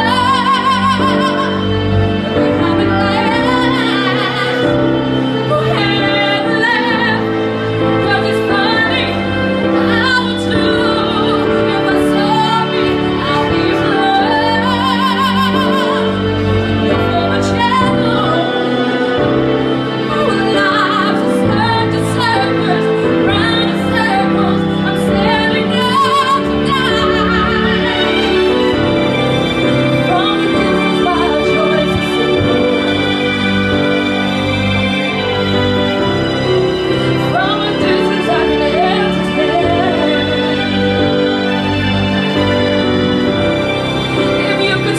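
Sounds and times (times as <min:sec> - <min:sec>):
woman singing a ballad: 0:00.0 - 0:28.8, 0:30.0 - 0:35.6, 0:37.1 - 0:41.7
recorded backing music: 0:00.0 - 0:44.9.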